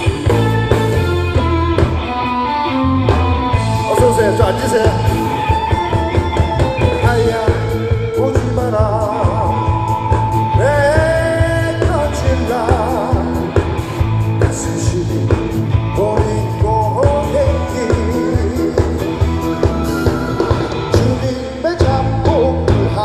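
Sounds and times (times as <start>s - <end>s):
steady drum beat: 0.0s - 2.2s, 3.0s - 23.0s
bass guitar: 0.0s - 23.0s
electric guitars: 0.0s - 23.0s
man singing with vibrato: 3.6s - 23.0s.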